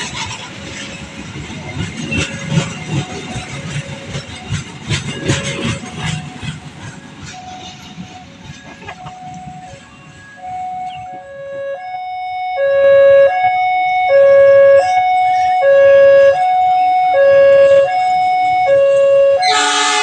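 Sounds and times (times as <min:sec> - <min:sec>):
two-tone crossing alarm: 0:02.2 - 0:20.0.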